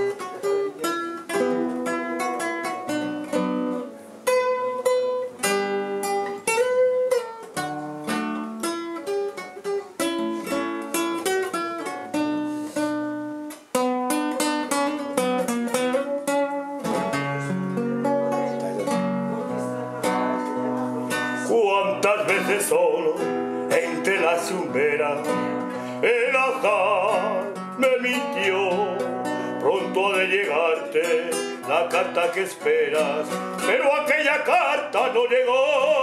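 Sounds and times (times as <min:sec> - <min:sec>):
solo guitar picking melody: 0:00.0 - 0:36.0.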